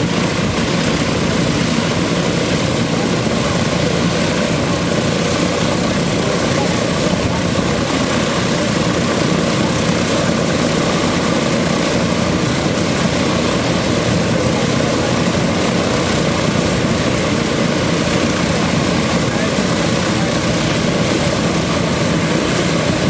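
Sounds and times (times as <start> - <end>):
radial aircraft engines running: 0.0 - 23.0.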